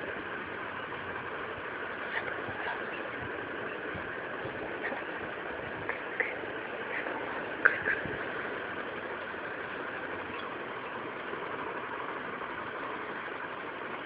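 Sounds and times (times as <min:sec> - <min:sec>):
steady hiss and rumble: 0:00.0 - 0:14.0.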